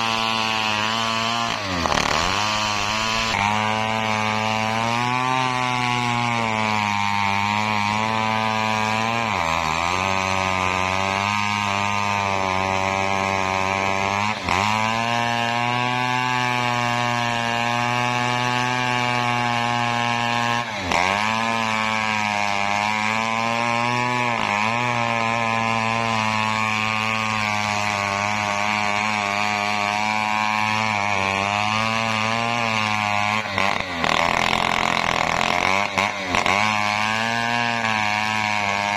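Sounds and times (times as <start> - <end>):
engine-driven saw cutting wood: 0.0 - 38.9.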